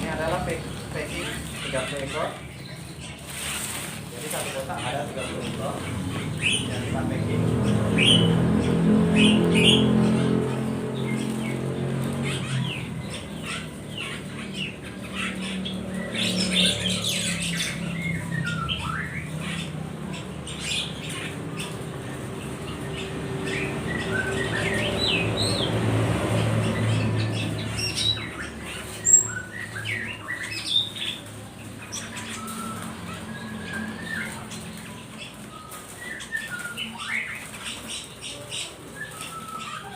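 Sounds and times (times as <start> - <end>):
songbirds chirping and squawking: 0.0 - 39.9.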